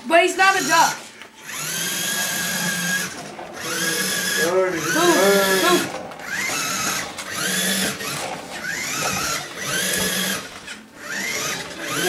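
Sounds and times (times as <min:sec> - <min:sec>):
toy car electric motor whining: 0:00.3 - 0:12.0.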